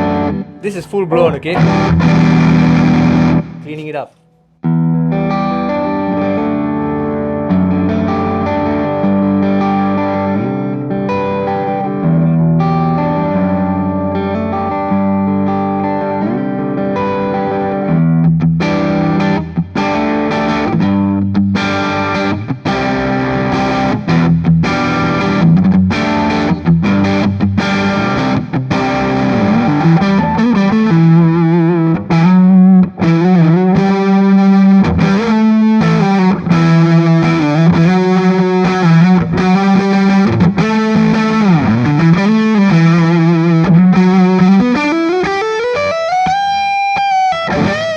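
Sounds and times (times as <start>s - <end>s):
overdriven electric guitar: 4.6s - 47.9s.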